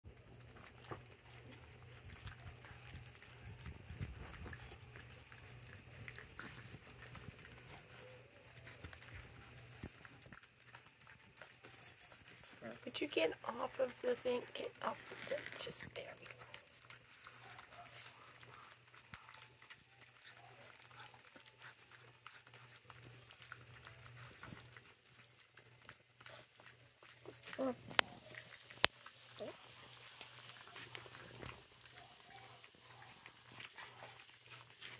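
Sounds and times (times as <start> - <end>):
kibble crunching against steel pan: 0.1 - 34.9.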